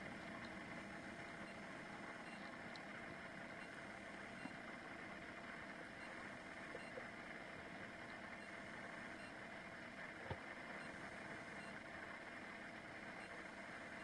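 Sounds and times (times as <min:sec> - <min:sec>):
faint room tone hum and hiss: 0:00.0 - 0:14.0.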